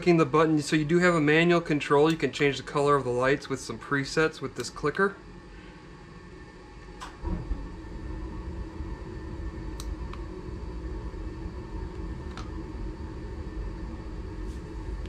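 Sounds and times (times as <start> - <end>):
furnace rumble and hum: 0.0 - 15.0.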